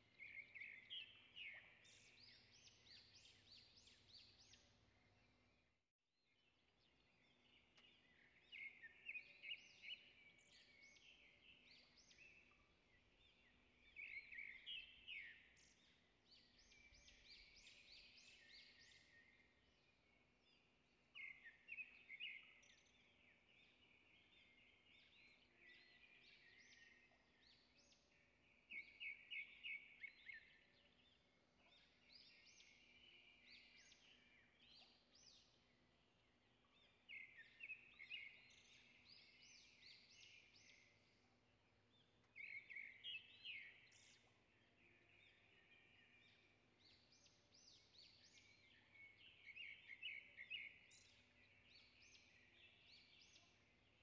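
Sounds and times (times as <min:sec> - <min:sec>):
faint birdsong: 0:00.0 - 0:54.0.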